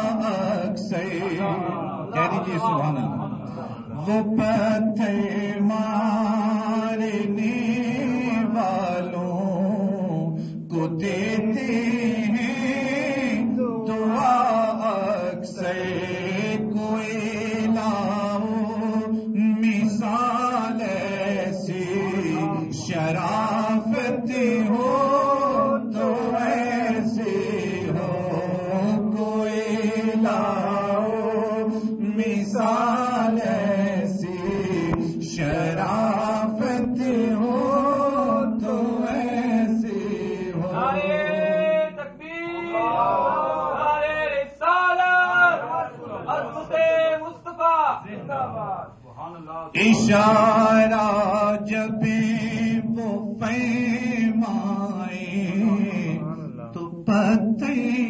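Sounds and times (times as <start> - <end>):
man chanting devotional poem: 0.0 - 42.9, 43.8 - 58.0.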